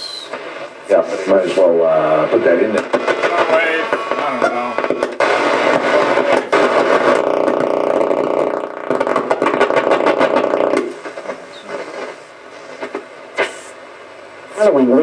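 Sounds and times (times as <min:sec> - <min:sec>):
radio hiss: 0:00.0 - 0:15.0
radio static and crackle: 0:00.0 - 0:15.0.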